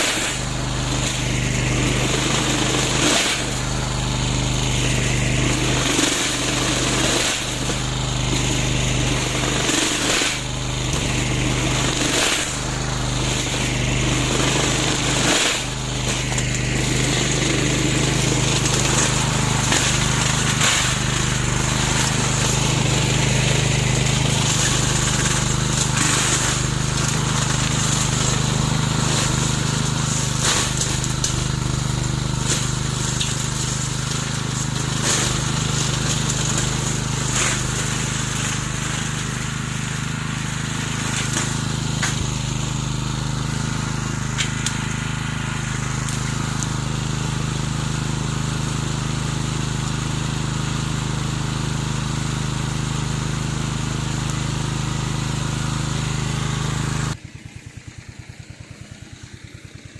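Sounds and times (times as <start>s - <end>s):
lawn mower running: 0.0s - 59.9s.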